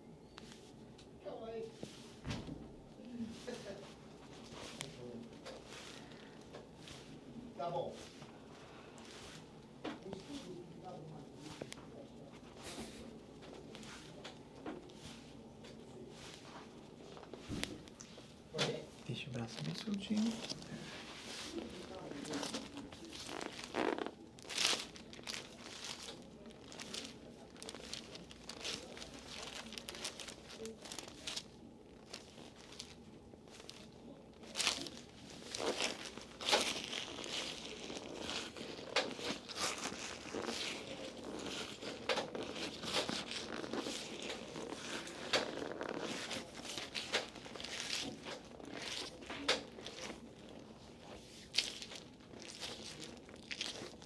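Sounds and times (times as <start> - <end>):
hands rustling over skin and cloth: 3.1 - 54.0.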